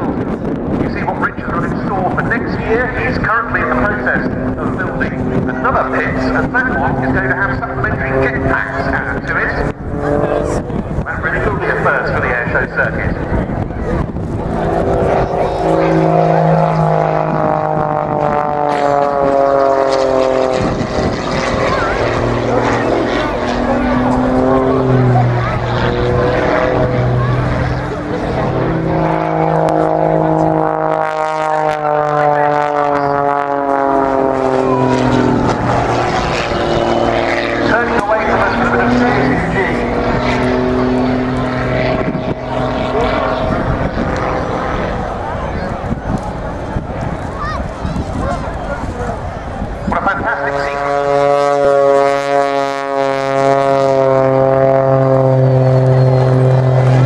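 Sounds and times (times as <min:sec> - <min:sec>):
biplane engine droning past: 0:00.0 - 0:57.0.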